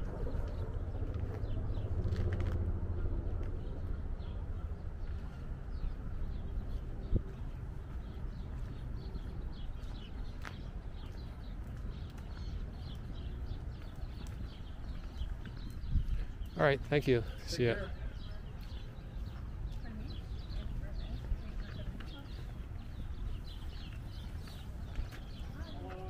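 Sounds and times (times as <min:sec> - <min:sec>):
distant traffic rumble: 0:00.0 - 0:26.0
small songbirds chirping: 0:03.5 - 0:26.0.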